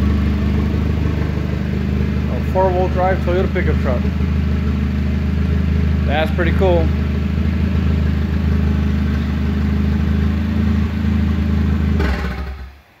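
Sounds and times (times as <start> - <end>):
truck engine idling: 0.0 - 12.7.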